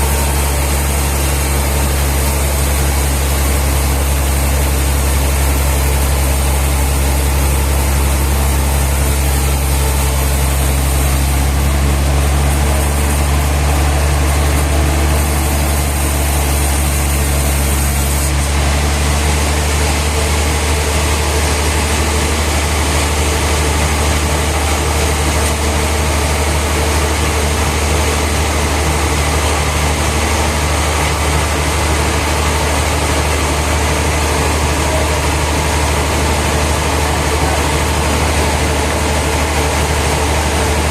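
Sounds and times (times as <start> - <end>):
sawmill machinery humming: 0.0 - 40.9.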